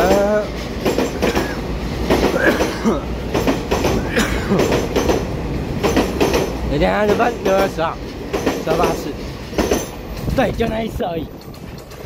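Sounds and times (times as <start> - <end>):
train rumble: 0.0 - 12.0
train wheels clattering over rail joints: 0.0 - 12.0.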